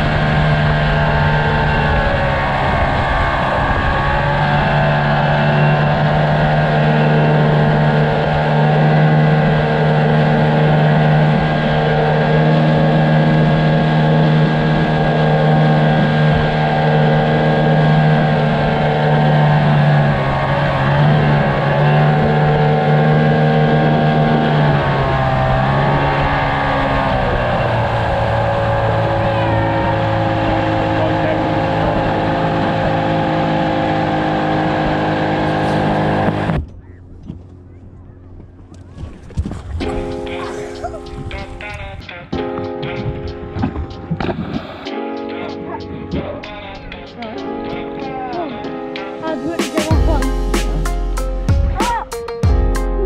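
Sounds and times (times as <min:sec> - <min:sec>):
outboard motor running at speed: 0:00.0 - 0:44.8.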